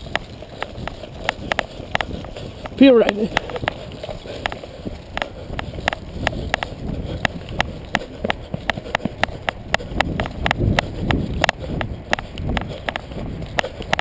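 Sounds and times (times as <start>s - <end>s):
footsteps on dirt trail: 0.0s - 14.0s
gear clicking and rattling: 0.0s - 14.0s.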